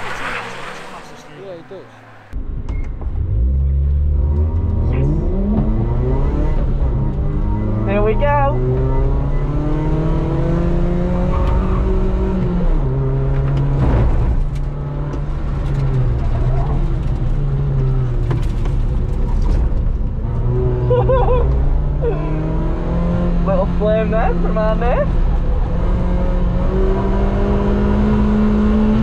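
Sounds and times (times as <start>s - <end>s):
car engine revving and shifting: 3.2s - 29.0s.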